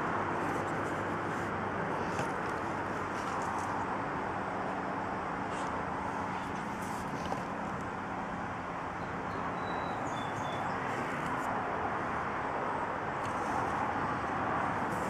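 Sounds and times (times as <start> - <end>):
distant traffic: 0.0 - 15.0.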